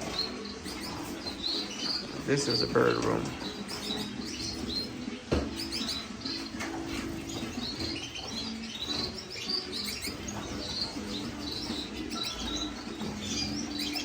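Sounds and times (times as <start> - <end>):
finches and canaries chirping: 0.0 - 14.0.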